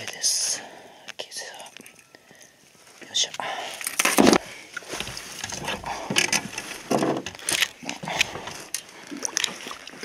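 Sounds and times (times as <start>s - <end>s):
fish being handled with clicks and rustles: 0.0s - 10.0s.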